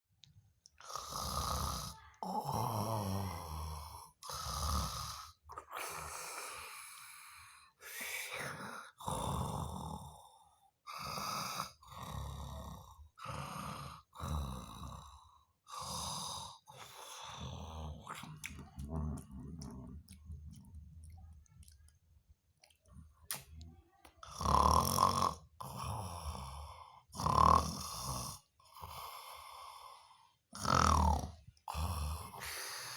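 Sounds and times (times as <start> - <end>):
person snoring: 0.8 - 20.2, 24.2 - 32.9.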